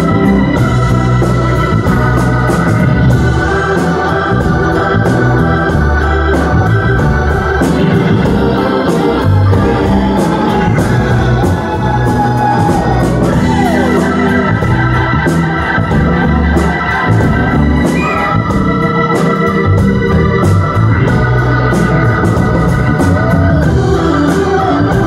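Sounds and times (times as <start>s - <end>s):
bass guitar: 0.0s - 25.0s
electric guitars: 0.0s - 25.0s
hammond organ: 0.0s - 25.0s
steady drum beat: 0.0s - 25.0s.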